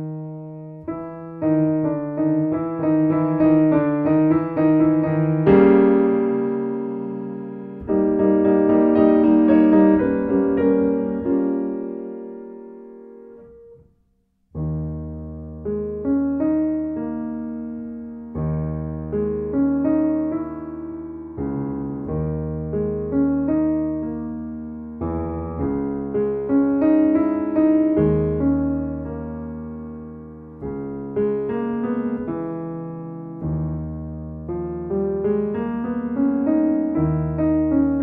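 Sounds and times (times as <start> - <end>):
grand piano playing: 0.0 - 13.9, 14.5 - 38.0.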